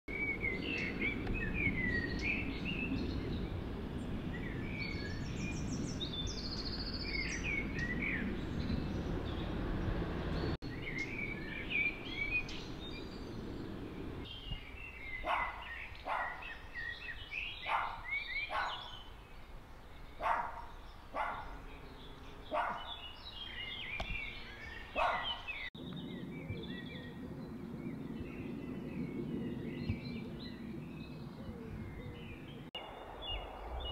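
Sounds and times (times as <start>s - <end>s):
small birds singing: 0.1s - 33.9s.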